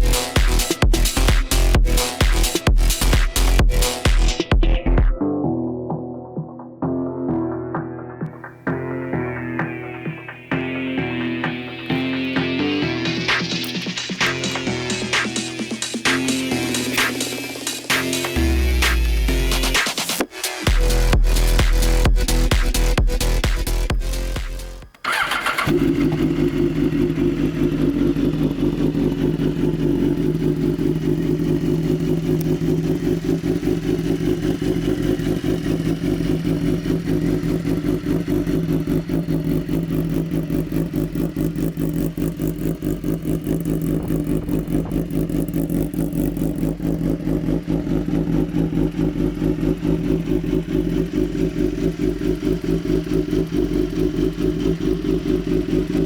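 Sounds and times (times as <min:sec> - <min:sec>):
motorcycle engine starting and idling: 0:00.0 - 0:05.0, 0:08.0 - 0:56.0.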